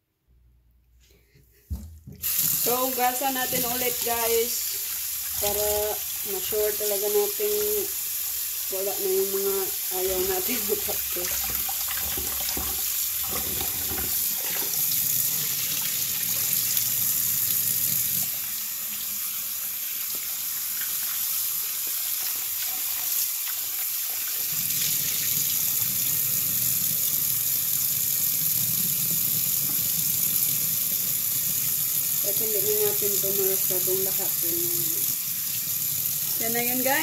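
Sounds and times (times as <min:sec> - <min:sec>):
water pouring into sink: 0:02.2 - 0:37.0.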